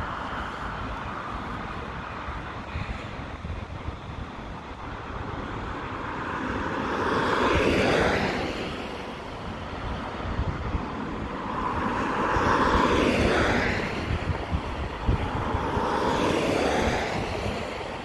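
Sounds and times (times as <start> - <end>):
road vehicles passing: 0.0 - 18.0
wind on microphone: 0.0 - 18.0.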